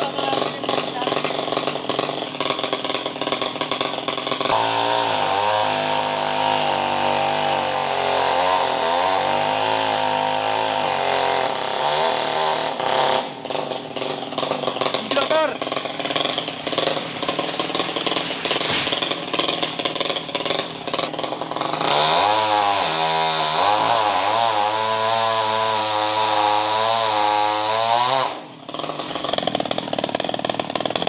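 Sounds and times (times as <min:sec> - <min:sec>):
chainsaw cutting: 0:00.0 - 0:31.0.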